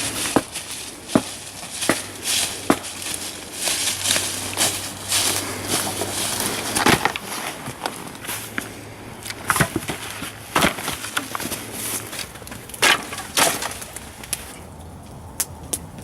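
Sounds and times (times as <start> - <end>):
wood cracking and snapping: 0.0 - 16.0.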